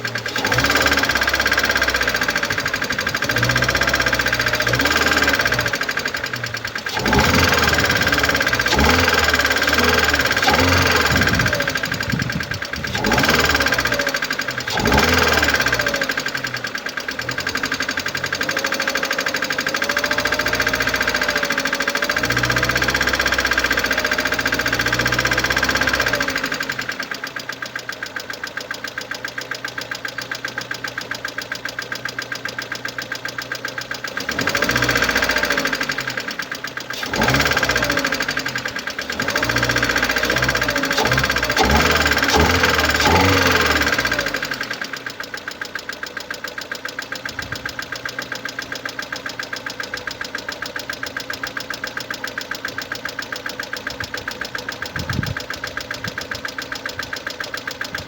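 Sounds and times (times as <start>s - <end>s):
engine revving: 0.0s - 30.2s, 33.6s - 58.0s
car engine knocking: 0.0s - 58.0s.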